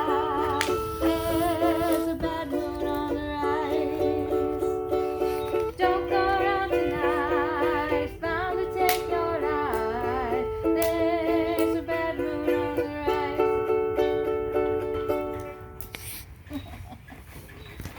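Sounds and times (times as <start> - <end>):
ukulele music: 0.0 - 16.0.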